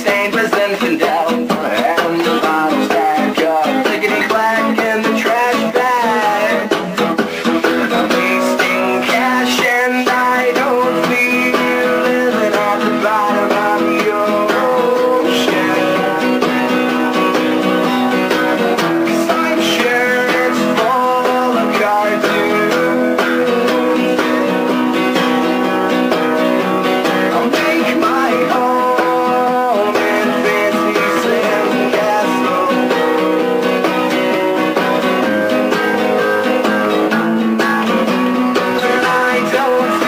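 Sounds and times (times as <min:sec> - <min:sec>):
guitar-led band music: 0:00.0 - 0:40.0.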